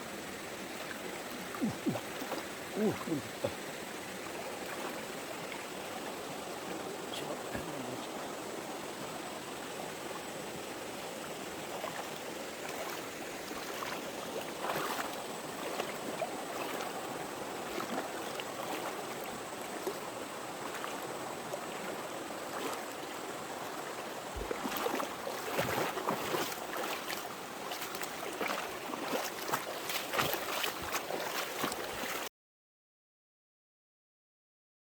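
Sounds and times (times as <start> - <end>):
stream running over rocks: 0.0 - 32.3
water splashes: 0.0 - 32.3.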